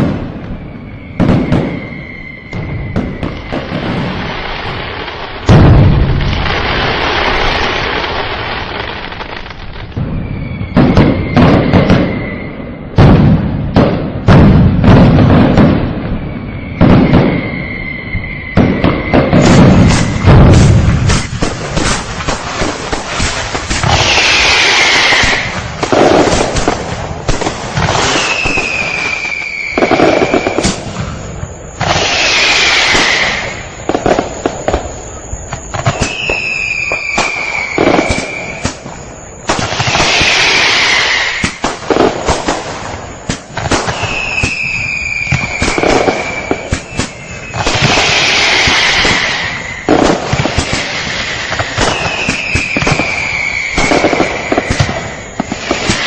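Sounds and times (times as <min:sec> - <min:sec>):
falling firework whistle: 0:00.0 - 0:56.0
fireworks crackling and popping: 0:00.0 - 0:56.0
loud firework burst: 0:00.0 - 0:56.0.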